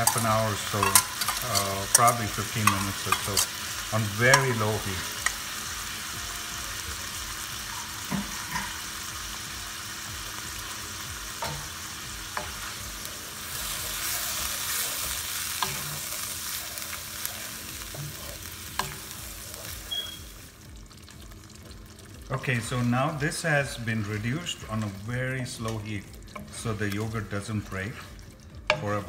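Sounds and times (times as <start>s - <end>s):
chicken sizzling in a frying pan: 0.0s - 29.0s.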